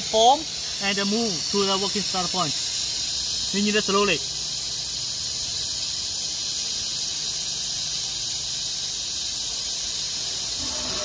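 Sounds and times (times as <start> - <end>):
workshop machinery hiss and hum: 0.0 - 11.0.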